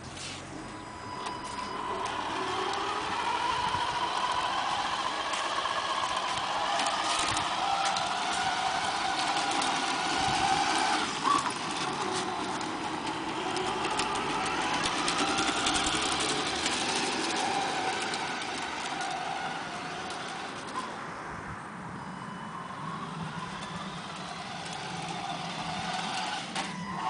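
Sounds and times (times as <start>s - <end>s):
toy truck motor whining: 0.8s - 20.9s, 22.1s - 27.0s.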